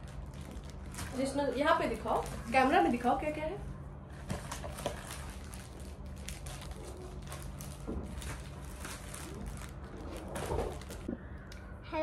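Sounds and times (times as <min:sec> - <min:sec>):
plastic packaging crinkling: 0:00.0 - 0:03.4, 0:04.1 - 0:11.1.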